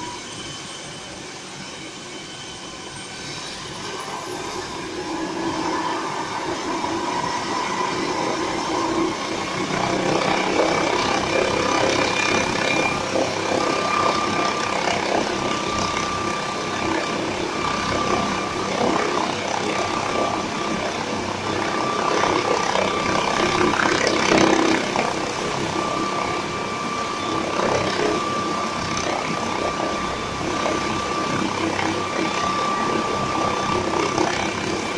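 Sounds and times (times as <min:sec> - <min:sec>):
helicopter engine and rotor noise: 0:00.0 - 0:34.9
helicopter turbine whine: 0:00.0 - 0:34.9.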